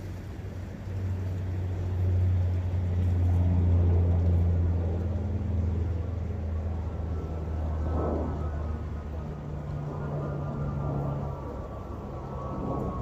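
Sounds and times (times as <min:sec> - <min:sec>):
faint outdoor ambience: 0:00.0 - 0:13.0
low motor drone: 0:00.0 - 0:13.0.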